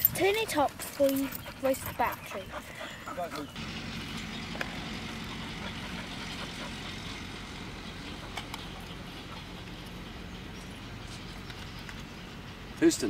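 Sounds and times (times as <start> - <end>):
low engine-like hum: 0.0 - 13.0
outdoor background noise: 0.0 - 13.0.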